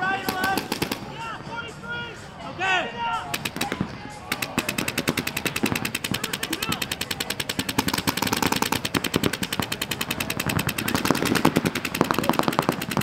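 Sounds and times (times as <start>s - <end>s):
paintball markers firing rapidly: 0.0s - 1.1s, 3.3s - 13.0s.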